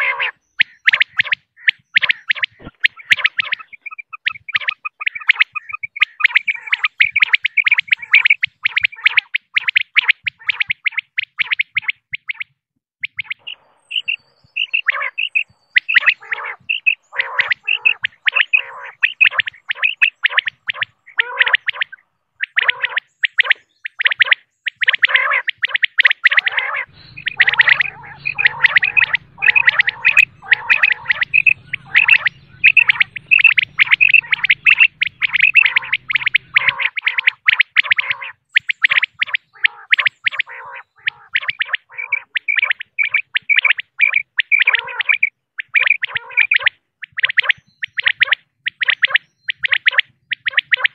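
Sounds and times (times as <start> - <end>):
quail calling: 0.0 - 50.9.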